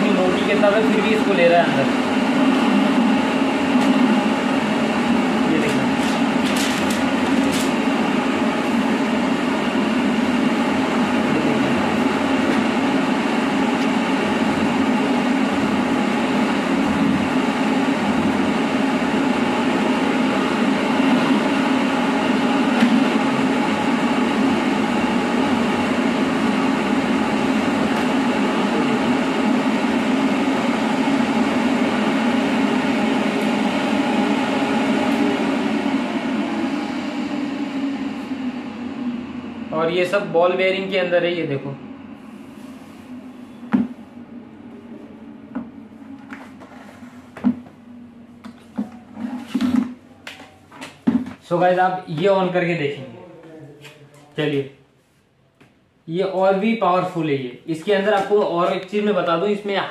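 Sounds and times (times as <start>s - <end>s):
duct fan running: 0.0s - 59.9s.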